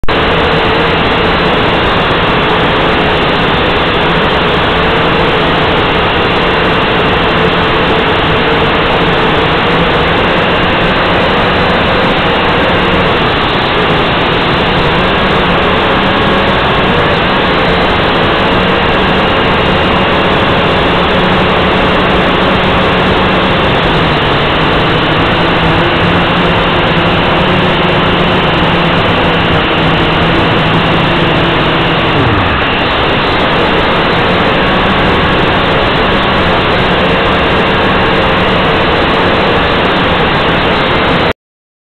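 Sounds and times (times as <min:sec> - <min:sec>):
drone propellers buzzing: 0:00.0 - 0:41.3.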